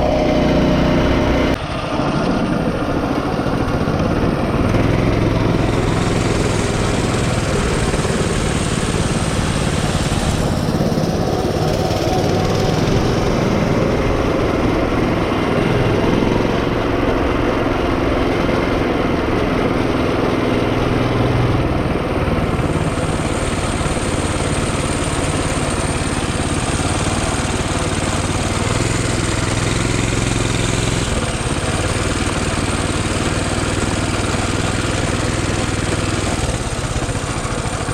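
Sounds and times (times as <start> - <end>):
small motorbike engine running: 0.0 - 37.9.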